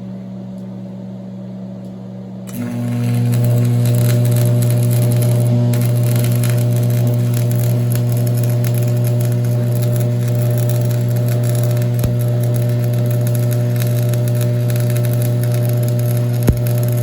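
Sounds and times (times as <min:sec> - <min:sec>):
electric welder humming: 0:02.5 - 0:17.0
welding arc crackling: 0:02.5 - 0:17.0.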